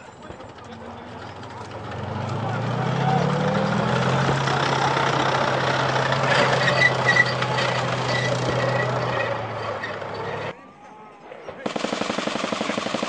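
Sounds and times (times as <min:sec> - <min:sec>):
vehicle engine idling: 0:00.0 - 0:10.6.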